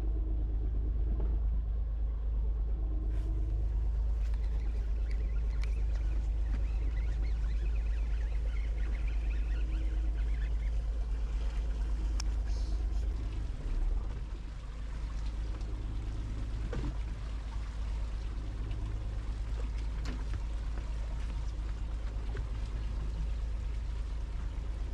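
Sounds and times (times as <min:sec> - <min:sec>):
boat engine droning: 0:00.0 - 0:24.9
water noise: 0:00.0 - 0:24.9.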